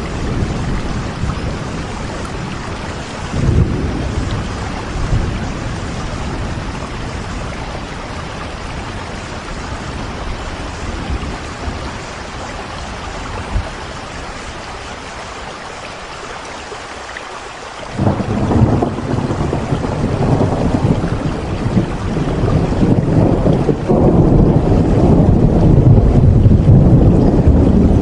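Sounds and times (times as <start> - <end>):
rolling thunder: 0.0 - 13.8, 18.0 - 28.0
steady rain: 0.0 - 28.0.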